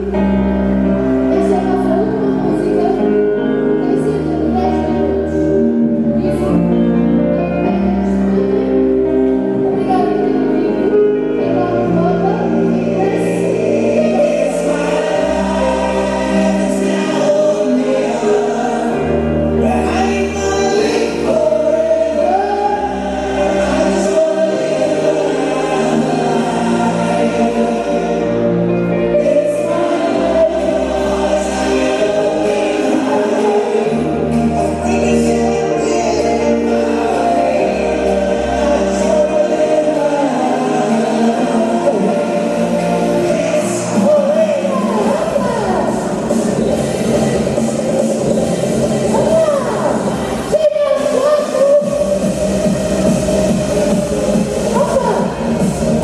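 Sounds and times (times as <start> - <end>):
choral singing: 0.0 - 56.0
sustained bass notes: 0.0 - 56.0.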